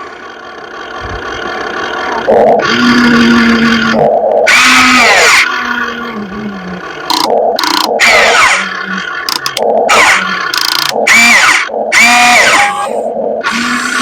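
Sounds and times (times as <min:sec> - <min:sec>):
small electric motors whining: 0:02.0 - 0:14.0.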